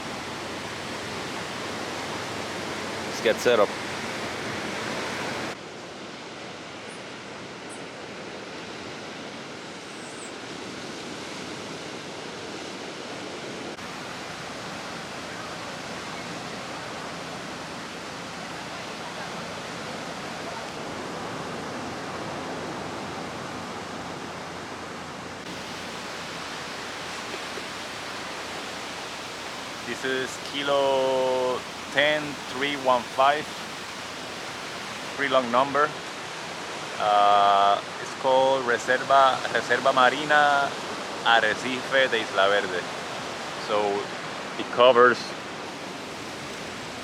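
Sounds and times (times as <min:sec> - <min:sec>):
ocean surf rushing: 0:00.0 - 0:47.0.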